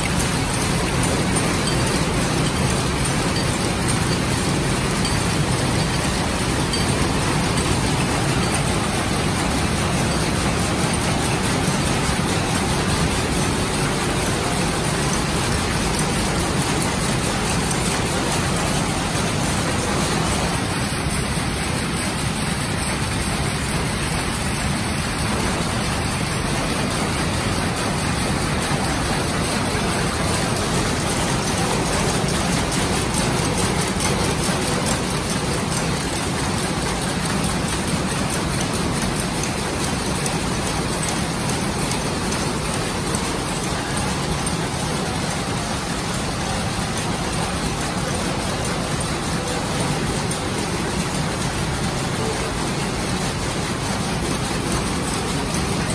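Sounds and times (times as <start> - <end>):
power looms clattering: 0.0 - 55.9.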